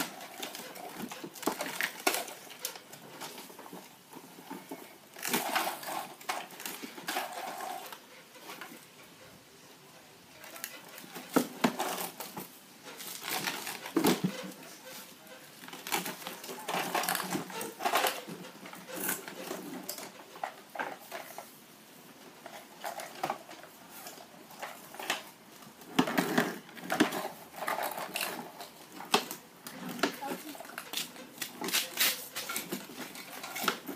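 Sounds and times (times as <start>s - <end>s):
plastic toy vehicles clattering: 0.0s - 8.9s, 10.4s - 33.9s.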